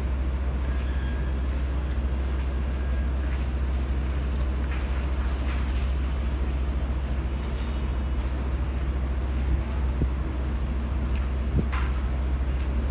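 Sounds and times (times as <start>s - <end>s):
boat engine running: 0.0s - 12.9s.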